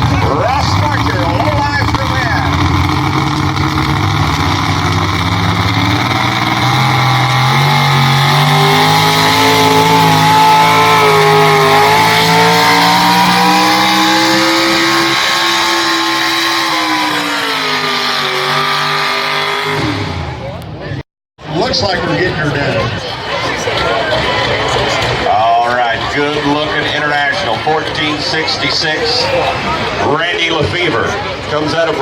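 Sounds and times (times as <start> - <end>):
tractor engine at full throttle: 0.0 - 32.0.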